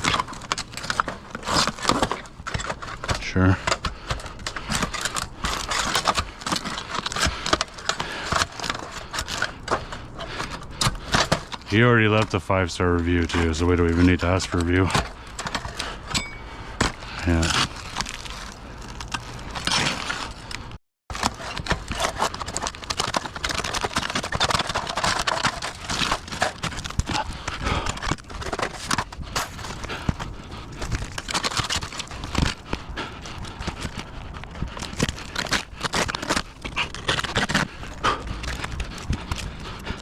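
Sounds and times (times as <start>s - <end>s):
scraping on a roof: 0.0s - 12.4s, 13.0s - 40.0s.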